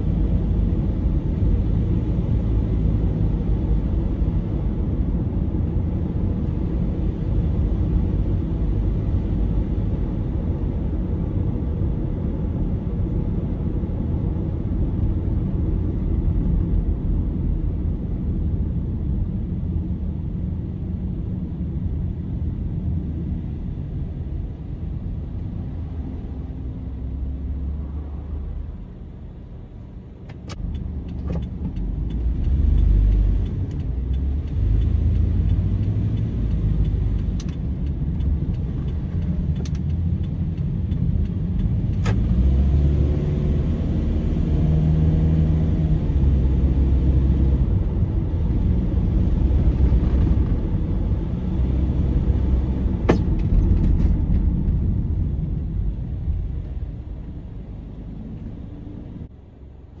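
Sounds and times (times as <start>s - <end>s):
car engine and tyre rumble: 0.0s - 60.0s.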